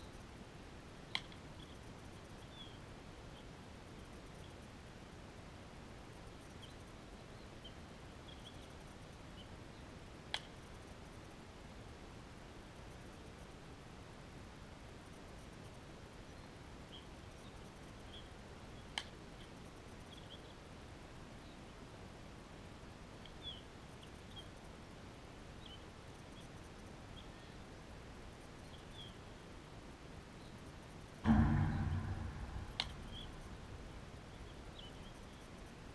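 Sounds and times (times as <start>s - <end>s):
low background noise: 0.0s - 35.9s
outdoor background noise: 0.0s - 35.9s.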